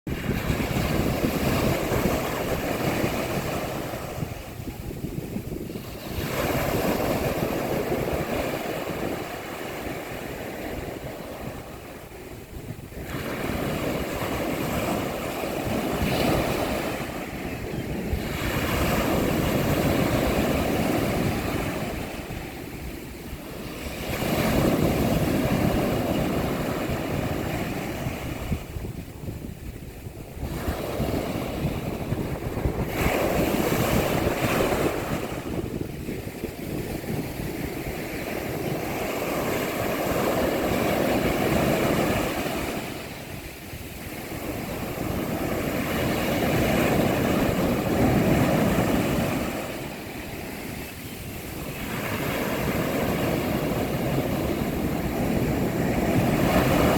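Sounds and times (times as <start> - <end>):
sea waves breaking: 0.1 - 56.9.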